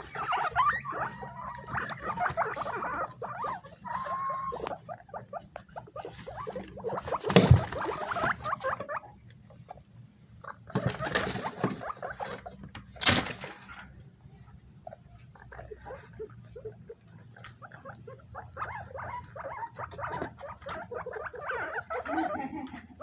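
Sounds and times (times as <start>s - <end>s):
guinea pigs squeaking: 0.0s - 13.3s, 14.6s - 23.0s.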